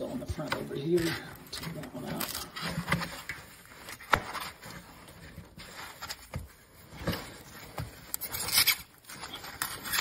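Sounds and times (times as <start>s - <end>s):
packing foam scraping and rustling: 0.0s - 10.0s.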